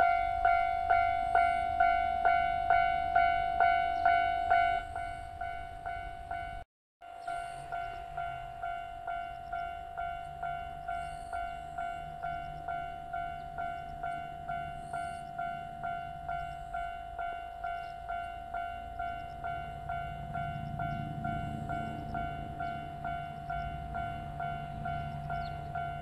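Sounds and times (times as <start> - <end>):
approaching train rumble: 0.0 - 26.0.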